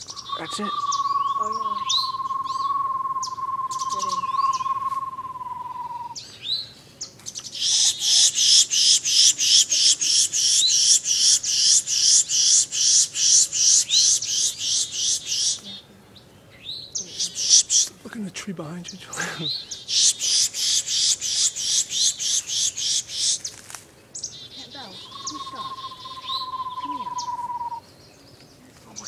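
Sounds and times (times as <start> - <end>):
bird trilling and chirping: 0.0 - 29.0
harsh repeated bird calls: 0.0 - 29.0.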